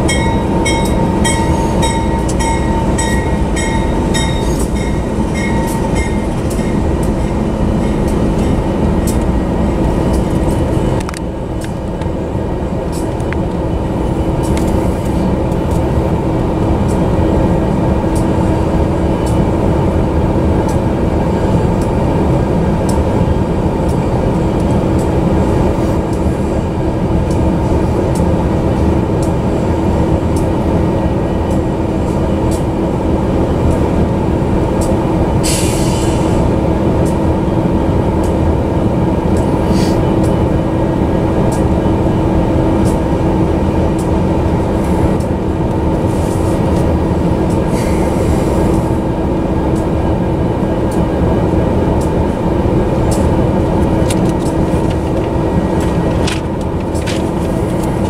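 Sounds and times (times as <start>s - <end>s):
constant hum: 0.0s - 58.0s
freight train wheels rumbling: 0.0s - 58.0s.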